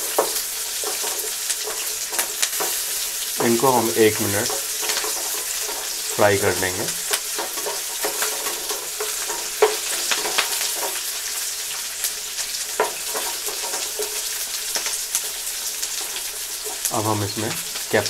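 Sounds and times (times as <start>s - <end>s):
spatula tapping and scraping pan: 0.0s - 16.9s
vegetables sizzling in oil: 0.0s - 18.0s.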